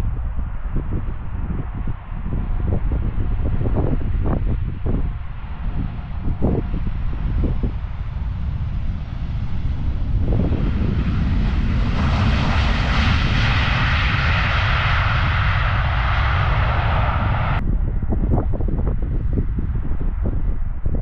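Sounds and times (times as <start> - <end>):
jet engine roar: 0.0 - 20.4
wind on microphone: 0.0 - 21.0.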